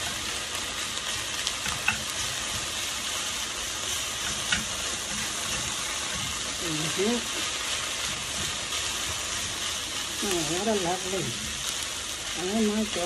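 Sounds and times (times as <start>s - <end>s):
rice sizzling in a frying pan: 0.0s - 13.0s.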